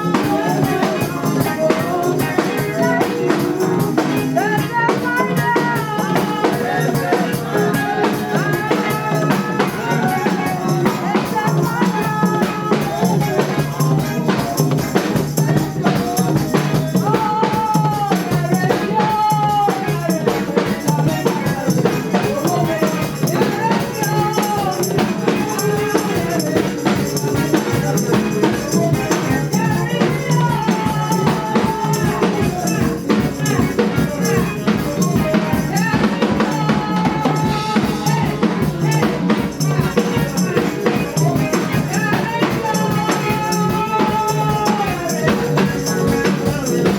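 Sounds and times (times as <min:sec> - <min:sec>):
drum kit beat: 0:00.0 - 0:46.9
tambourine: 0:00.0 - 0:46.9.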